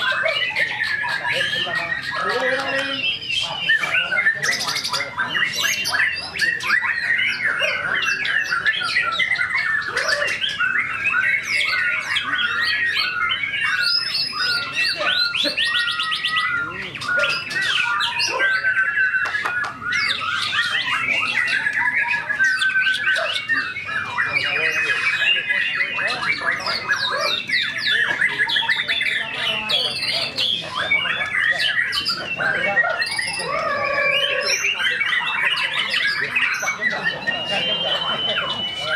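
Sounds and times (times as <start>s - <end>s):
songbird whistles and trills: 0.0s - 38.9s.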